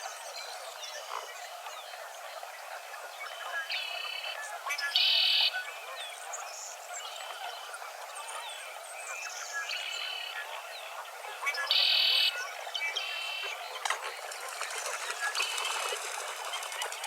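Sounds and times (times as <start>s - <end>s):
frogs croaking: 0.0s - 17.0s
birds calling: 3.2s - 17.0s
trilled calls: 3.2s - 17.0s.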